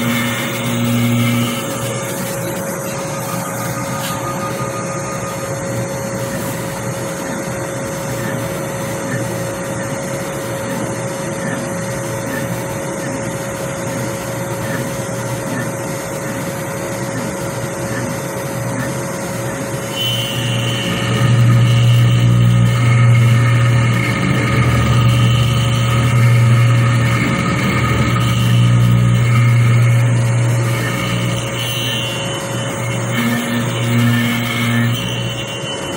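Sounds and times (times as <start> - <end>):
milling machine spindle whining: 0.0 - 35.9.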